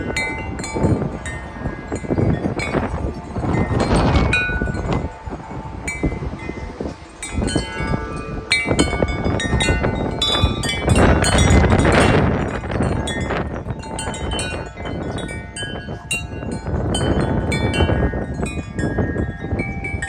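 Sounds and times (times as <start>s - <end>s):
strong gusty wind: 0.0s - 20.0s
wind buffeting microphone: 0.0s - 20.0s
wind chimes clanging: 0.0s - 20.0s.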